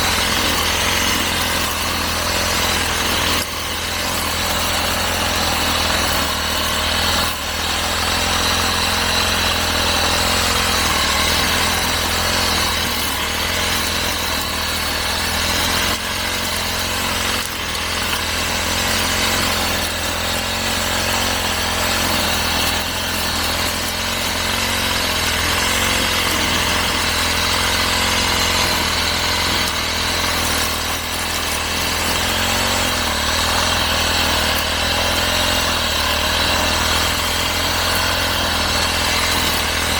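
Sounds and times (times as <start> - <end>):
grass cutter engine running: 0.0 - 39.9.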